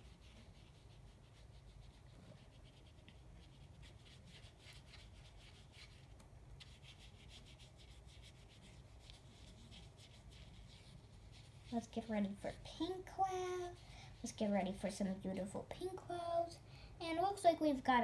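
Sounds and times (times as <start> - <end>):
paintbrush scrubbing on paper: 0.0 - 14.9
low room hum: 0.0 - 18.0.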